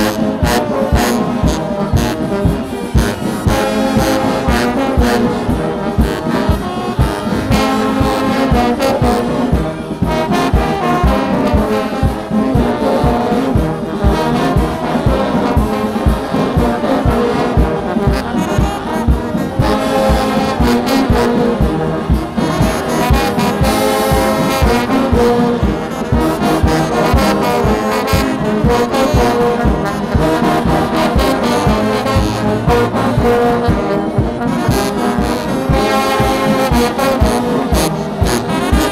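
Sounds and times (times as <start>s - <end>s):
brass band music: 0.0s - 38.9s
steady drum beat: 0.0s - 38.9s.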